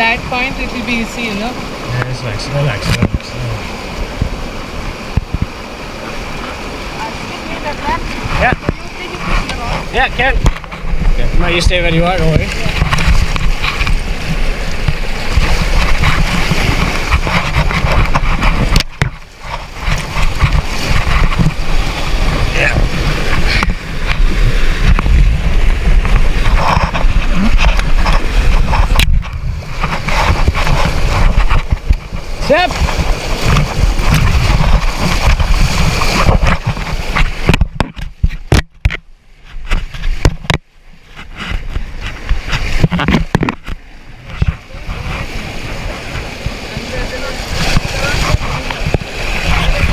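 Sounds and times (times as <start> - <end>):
river rapids rushing: 0.0 - 37.6, 41.1 - 49.9
wind buffeting microphone: 0.0 - 38.9, 41.2 - 49.9
splashes and knocks on raft: 0.0 - 49.9.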